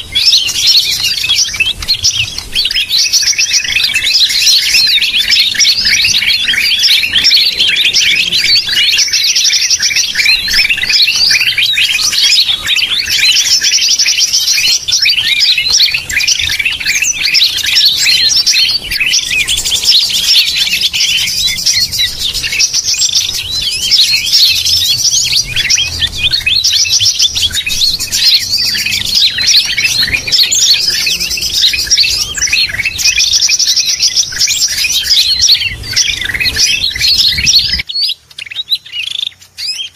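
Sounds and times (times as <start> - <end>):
buzzy bird trill: 0.0 - 39.9
chorus of bird chirps: 0.0 - 39.9.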